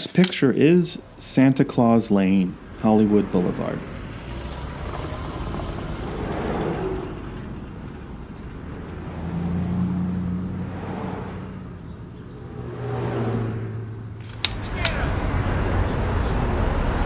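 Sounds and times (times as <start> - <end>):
cars passing: 0.9 - 17.0
vehicle engine hum: 1.0 - 17.0.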